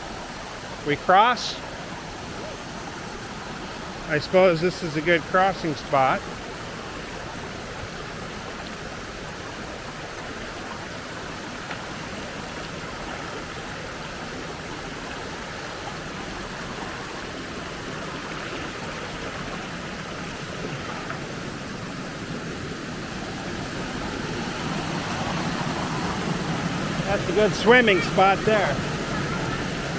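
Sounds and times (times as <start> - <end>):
stream flowing: 0.0 - 29.9.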